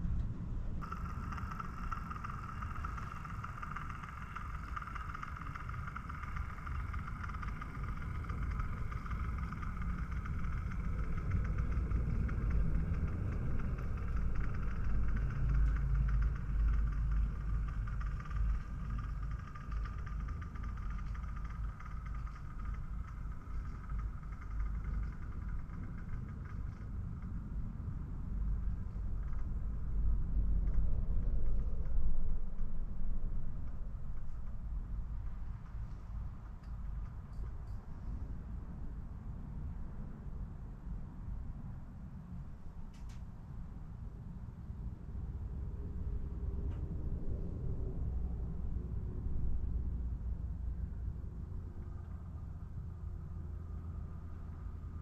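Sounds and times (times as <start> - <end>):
wheels rumbling on track: 0.0 - 38.7, 45.1 - 55.0
model locomotive hum: 0.8 - 39.8, 45.1 - 55.0.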